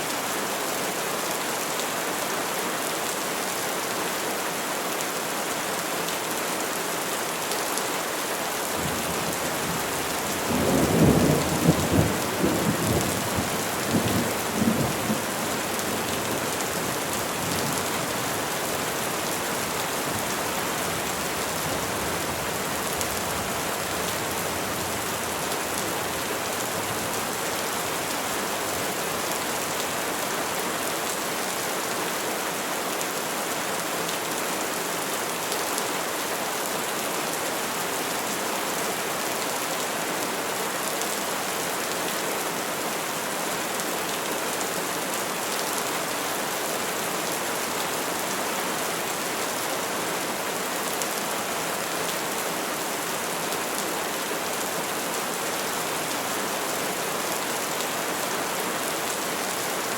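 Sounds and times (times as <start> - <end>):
rain falling on trees: 0.0 - 59.9.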